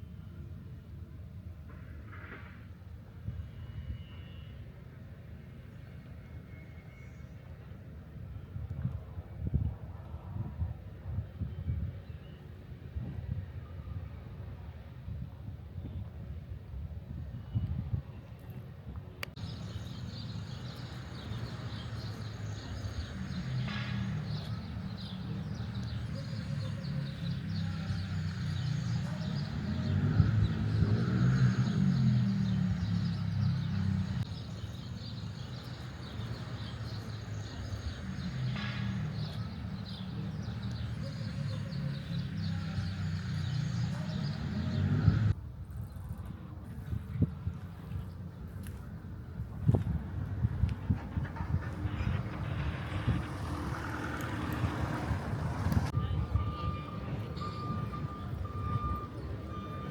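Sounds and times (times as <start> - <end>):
low traffic rumble: 0.0 - 59.9.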